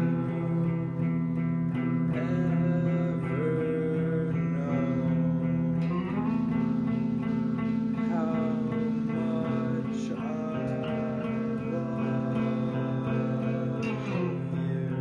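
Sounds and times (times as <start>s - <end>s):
rock guitar chords over bass: 0.0s - 15.0s.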